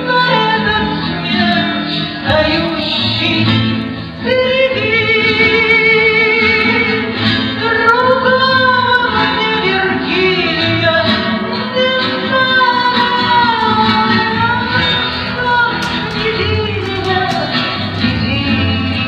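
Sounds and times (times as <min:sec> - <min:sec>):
full musical accompaniment: 0:00.0 - 0:19.0.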